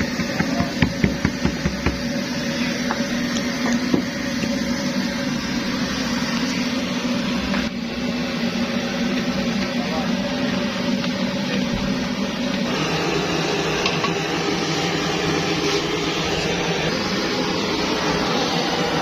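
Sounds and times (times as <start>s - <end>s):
pressure stove burning: 0.0s - 19.0s.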